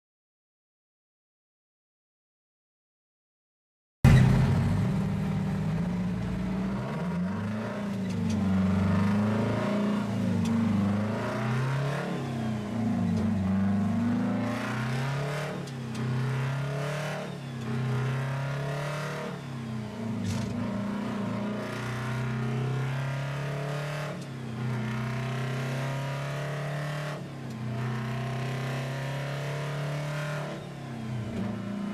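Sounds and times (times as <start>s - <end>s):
diesel truck engine pulling through gears: 4.1s - 31.9s.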